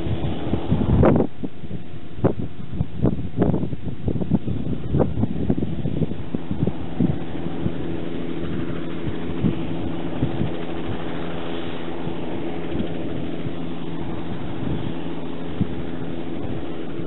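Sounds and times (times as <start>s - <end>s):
helicopter engine and rotor hum: 0.0s - 17.0s.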